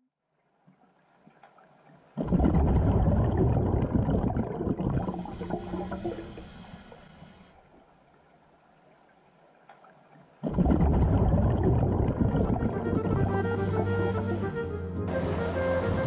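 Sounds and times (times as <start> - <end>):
deep watery rumbling: 1.7 - 16.0.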